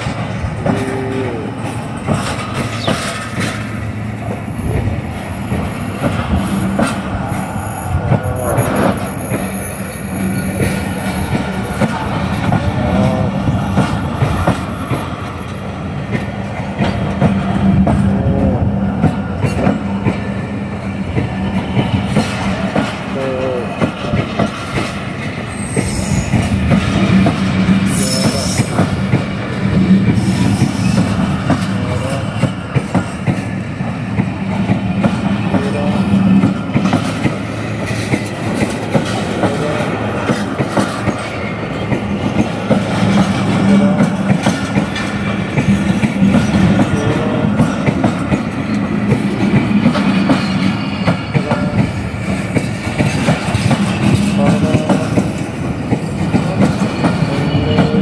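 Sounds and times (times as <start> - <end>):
train wheels clattering over rails: 0.0 - 58.0.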